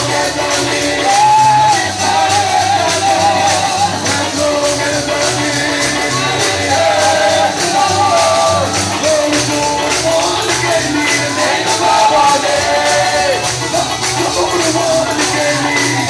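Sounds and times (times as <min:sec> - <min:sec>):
person singing: 0:00.0 - 0:16.0
pulsing bass: 0:00.0 - 0:16.0
steady beat: 0:00.0 - 0:16.0
tambourine shaking: 0:00.0 - 0:16.0.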